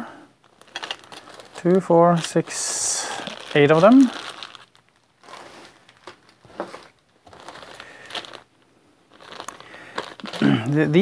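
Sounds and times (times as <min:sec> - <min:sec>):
plastic bags crinkling: 0:00.4 - 0:11.0.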